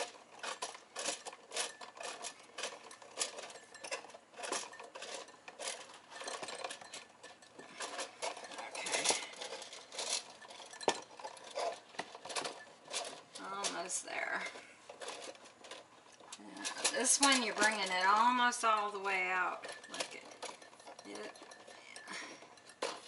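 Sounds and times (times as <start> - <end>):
plastic and metal clicking and scraping: 0.0 - 23.0
wire hooks rattling: 0.0 - 23.0.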